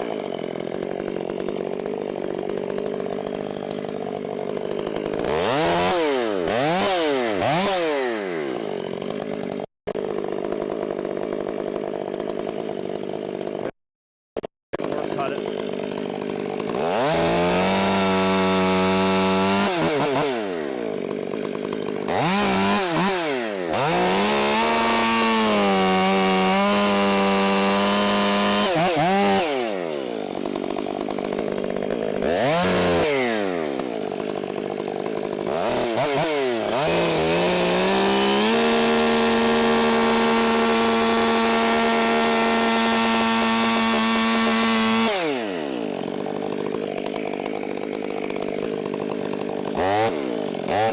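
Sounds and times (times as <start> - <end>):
chainsaw cutting wood: 0.0 - 13.8, 14.4 - 50.9.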